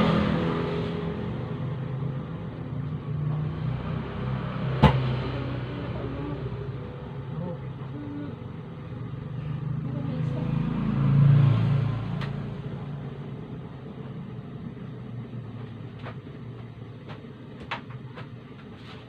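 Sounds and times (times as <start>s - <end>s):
vehicle engine rumble passing: 0.0s - 17.4s.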